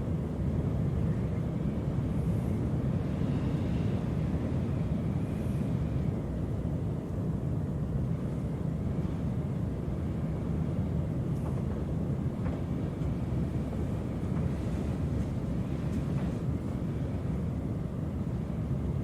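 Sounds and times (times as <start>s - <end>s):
strong wind low rumble: 0.0s - 19.0s.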